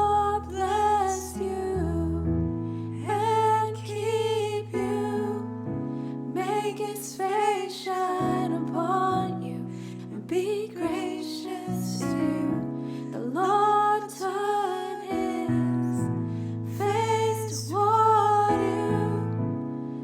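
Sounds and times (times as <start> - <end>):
woman singing: 0.0 - 2.4, 3.0 - 5.6, 6.3 - 19.5
piano chords: 0.0 - 20.0.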